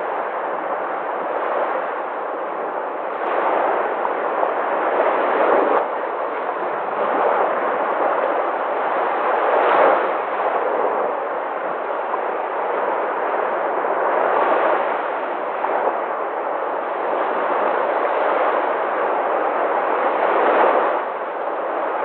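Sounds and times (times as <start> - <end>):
sea waves breaking: 0.0 - 22.0.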